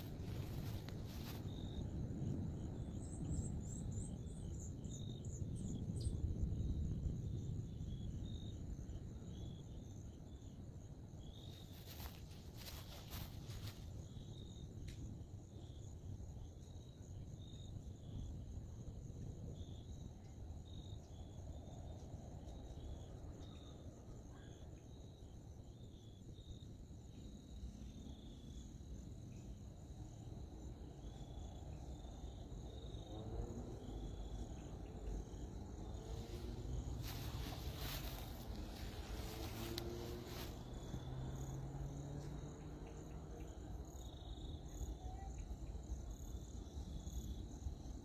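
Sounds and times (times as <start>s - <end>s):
cricket chirps: 0.0s - 48.0s
insects droning: 0.0s - 48.0s.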